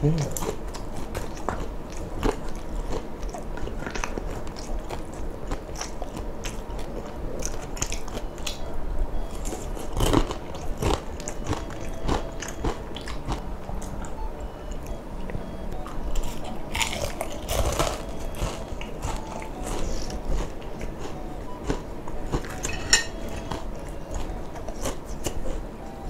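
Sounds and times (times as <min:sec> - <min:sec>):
chewing and biting food: 0:00.0 - 0:26.0.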